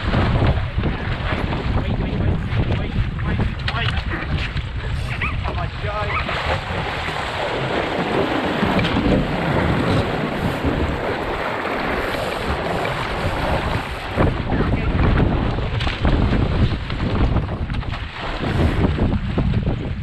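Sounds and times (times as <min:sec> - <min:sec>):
water rushing along a hull: 0:00.0 - 0:20.0
wind buffeting microphone: 0:00.0 - 0:20.0.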